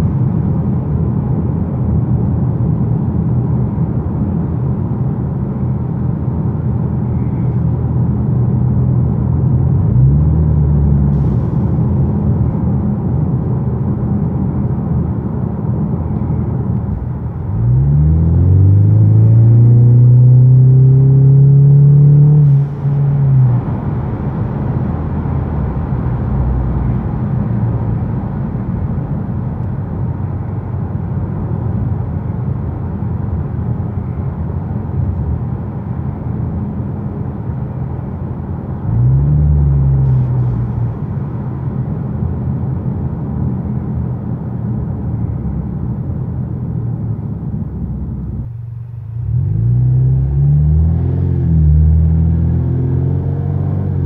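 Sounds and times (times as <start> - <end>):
car engine and exhaust rumble: 0.0 - 54.0
road noise: 0.0 - 54.0.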